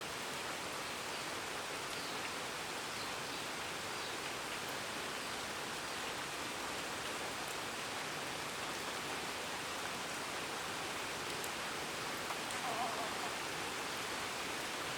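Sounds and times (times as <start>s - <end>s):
outdoor ambience hiss: 0.0s - 14.9s.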